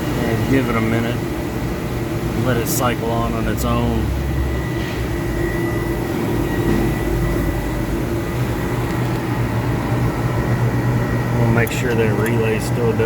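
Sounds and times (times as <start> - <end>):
air conditioning hum: 0.0 - 13.0.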